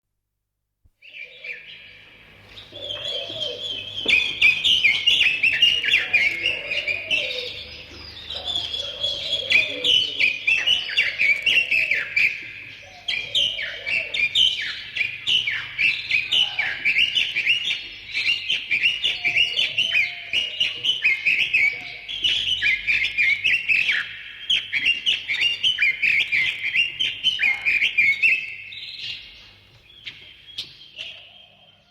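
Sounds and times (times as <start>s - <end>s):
birds chirping and singing: 1.0s - 31.9s
low round bird calls: 1.0s - 31.9s.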